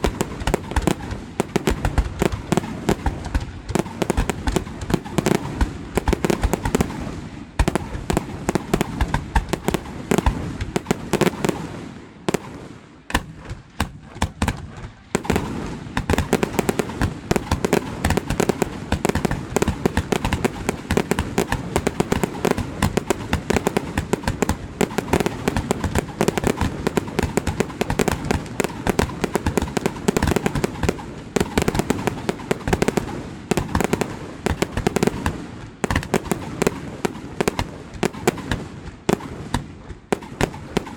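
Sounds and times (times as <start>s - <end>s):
fireworks bursts and crackling: 0.0s - 40.9s.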